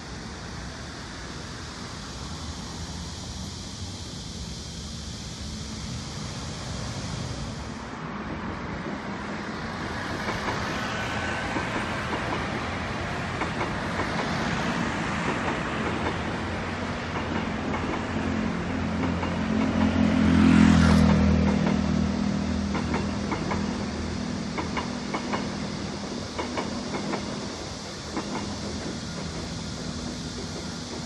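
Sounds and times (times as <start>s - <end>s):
train wheels clicking on rail joints: 0.1s - 31.0s.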